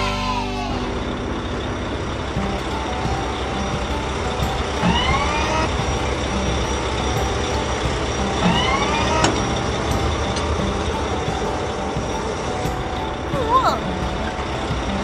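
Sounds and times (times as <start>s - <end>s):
cartoon engine rumble: 0.0s - 15.0s.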